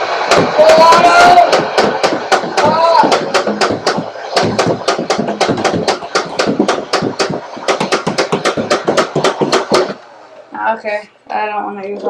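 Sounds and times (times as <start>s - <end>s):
toy blaster firing rapidly: 0.2s - 9.9s.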